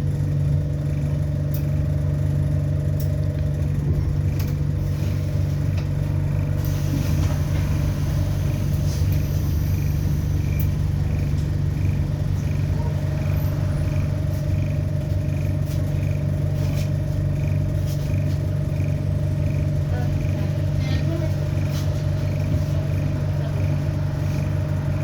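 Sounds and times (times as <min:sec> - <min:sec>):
bus drivetrain drone: 0:00.0 - 0:25.0.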